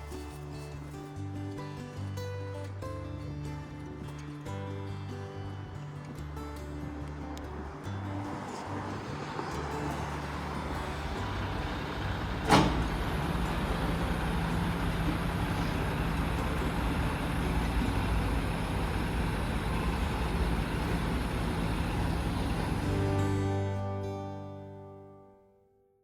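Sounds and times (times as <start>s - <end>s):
vehicle engine and road noise: 0.0s - 24.6s.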